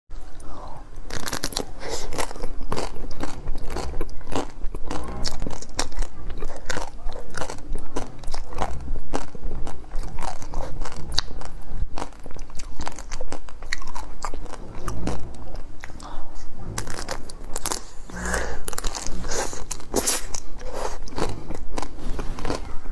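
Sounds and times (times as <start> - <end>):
chewing and wet mouth sounds: 0.4 - 22.9
chocolate shell crunching: 1.1 - 16.0, 16.8 - 22.7.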